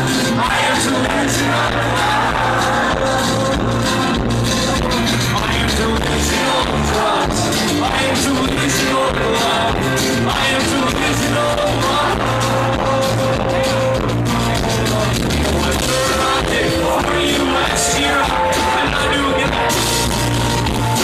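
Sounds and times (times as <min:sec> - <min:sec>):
live rock band: 0:00.0 - 0:21.0
person singing: 0:00.0 - 0:21.0.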